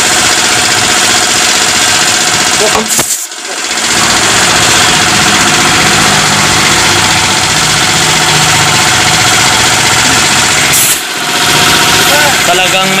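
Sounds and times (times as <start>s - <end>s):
tire-changing machine running: 0.0s - 13.0s.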